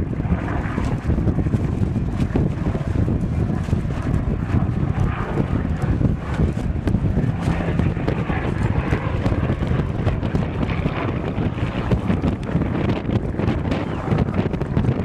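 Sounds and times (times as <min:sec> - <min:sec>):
faint aircraft engine drone: 0:00.0 - 0:15.0
wind buffeting microphone: 0:00.0 - 0:15.0.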